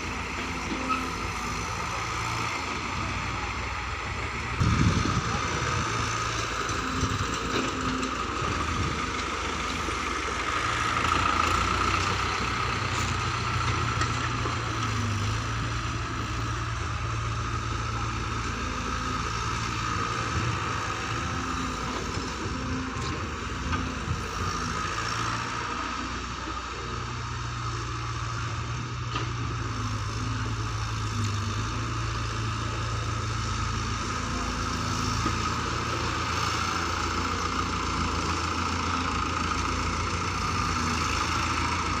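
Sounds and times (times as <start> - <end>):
large engine humming: 0.0 - 42.0.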